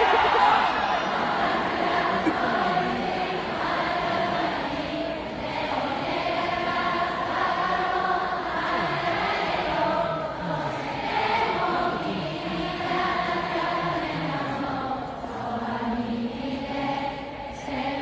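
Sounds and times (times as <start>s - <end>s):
crowd singing in unison: 0.0s - 18.0s.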